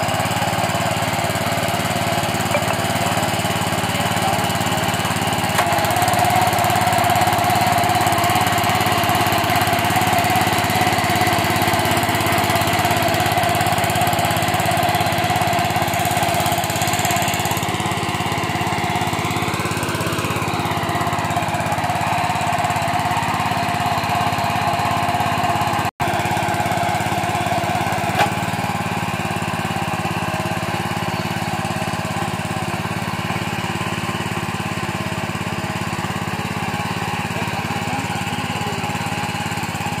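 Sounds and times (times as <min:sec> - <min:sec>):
small diesel engine running: 0:00.0 - 0:40.0.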